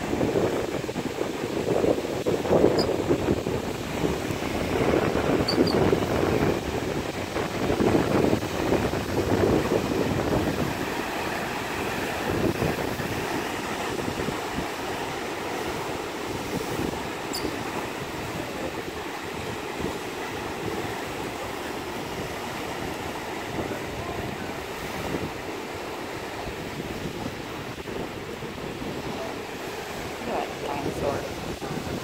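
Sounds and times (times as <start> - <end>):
wind gusts buffeting microphone: 0.0 - 32.0.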